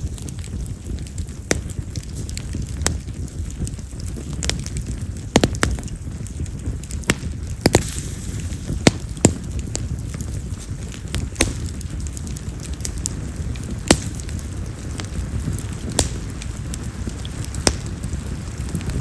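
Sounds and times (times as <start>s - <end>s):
fire crackling pops: 0.0s - 19.0s
rush of flame: 0.0s - 19.0s.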